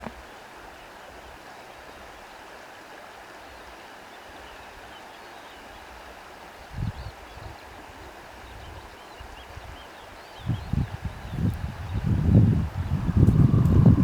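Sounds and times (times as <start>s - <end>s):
wind through grass: 0.0s - 14.0s.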